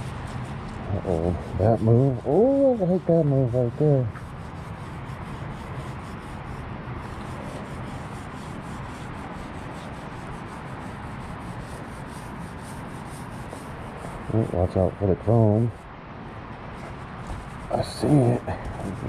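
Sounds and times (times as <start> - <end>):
paint roller rubbing: 0.0 - 15.7, 16.7 - 19.0.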